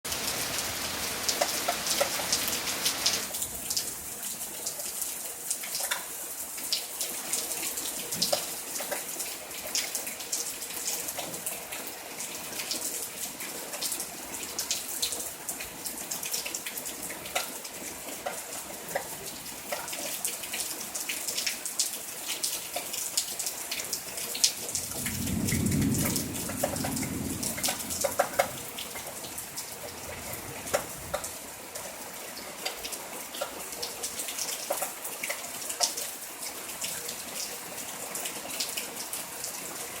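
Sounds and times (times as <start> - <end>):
rain falling: 0.1 - 40.0.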